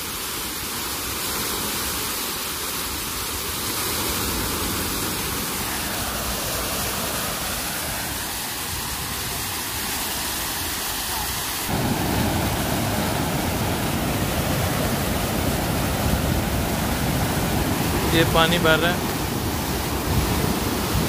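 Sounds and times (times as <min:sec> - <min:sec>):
water rushing through lock gates: 0:00.0 - 0:21.0.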